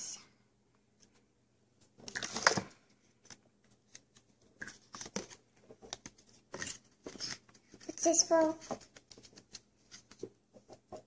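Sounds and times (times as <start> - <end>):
modelling clay rustling scrape: 1.9 - 11.0.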